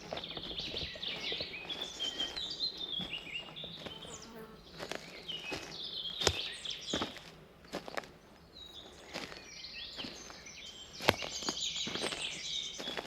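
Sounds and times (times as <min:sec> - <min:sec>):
footsteps on a path: 0:00.0 - 0:13.0
songbirds chirping and warbling: 0:00.0 - 0:13.0.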